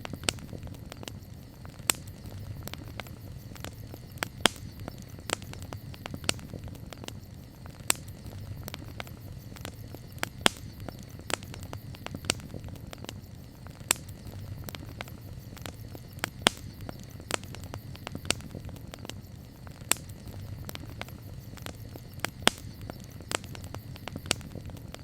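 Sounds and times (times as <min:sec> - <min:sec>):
campfire crackling and popping: 0:00.0 - 0:25.0
flames rumbling: 0:00.0 - 0:25.0.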